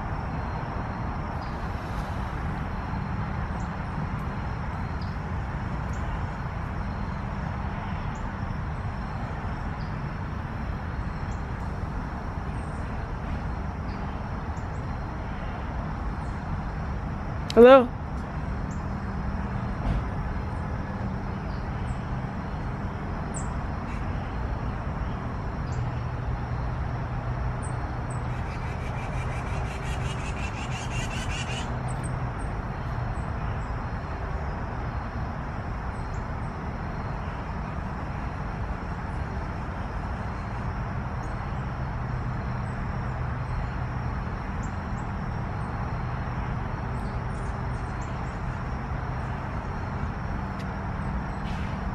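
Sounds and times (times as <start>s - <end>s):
distant traffic rumble: 0.0s - 51.9s.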